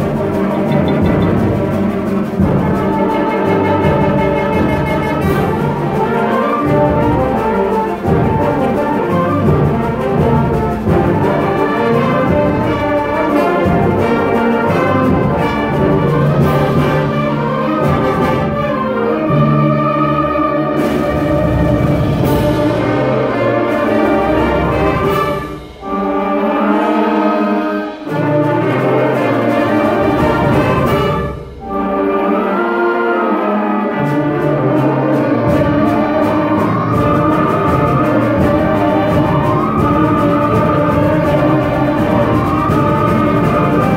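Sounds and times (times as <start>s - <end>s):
concert band playing: 0.0s - 43.9s.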